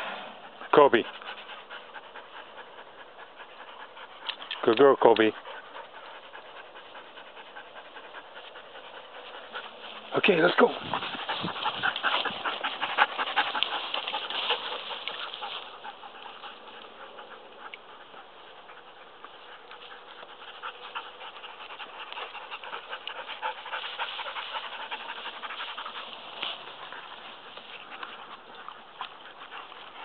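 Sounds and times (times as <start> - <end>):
dog panting: 0.3 - 30.0
dry grass rustling: 5.5 - 30.0.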